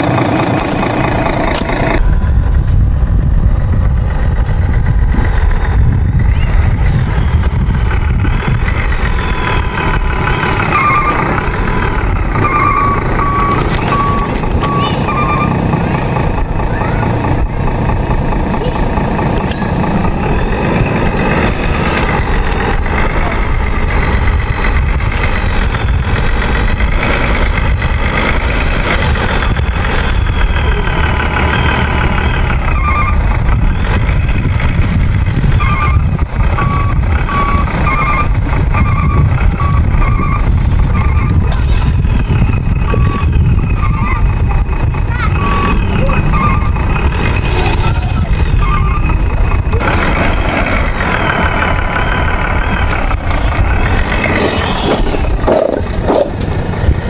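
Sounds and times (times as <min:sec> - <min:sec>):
truck reversing beeper: 0:00.0 - 0:56.2
wavering whining tone: 0:00.0 - 0:56.5
steady low rumble: 0:00.0 - 0:57.0.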